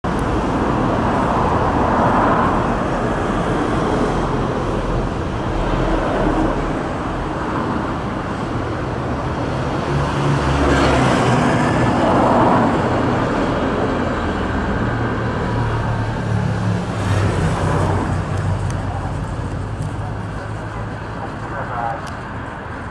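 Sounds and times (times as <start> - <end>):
road traffic rushing: 0.0 - 22.9.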